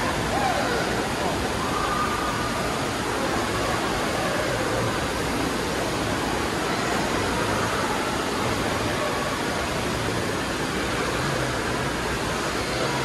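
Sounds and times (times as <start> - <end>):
rushing splashing water: 0.0 - 13.0.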